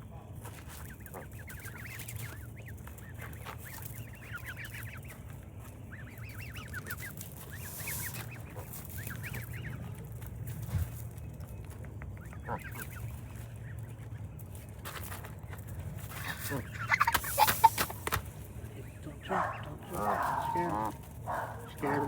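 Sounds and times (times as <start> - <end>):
baby ducks peeping: 0.0 - 22.0
steady low hum: 0.0 - 22.0.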